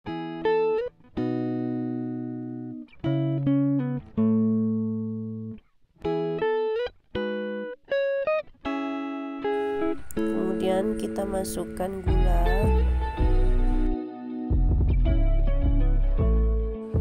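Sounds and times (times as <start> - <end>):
plucked guitar-like music: 0.1 - 17.0.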